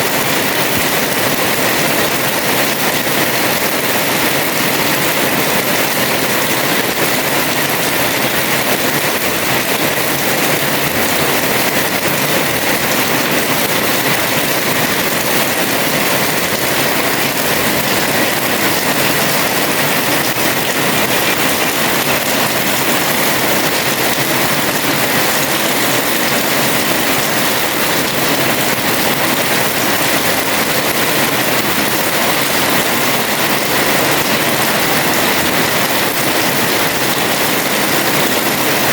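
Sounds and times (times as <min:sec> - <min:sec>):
heavy rain on terrace: 0:00.0 - 0:38.9.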